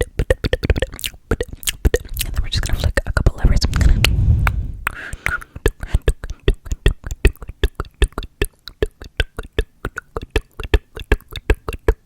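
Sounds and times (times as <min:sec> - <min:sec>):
wet mouth clicks: 0:00.0 - 0:12.0.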